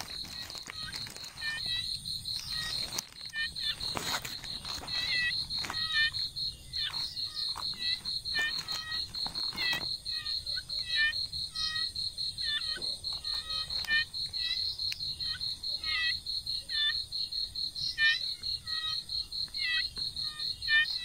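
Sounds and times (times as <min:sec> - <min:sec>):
frogs chirping: 0:00.0 - 0:21.0
insect pulsing trill: 0:00.0 - 0:21.0.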